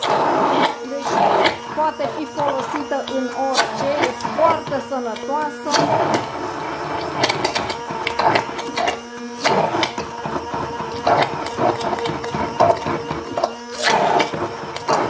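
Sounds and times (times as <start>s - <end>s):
immersion blender motor whine: 0.0s - 15.0s.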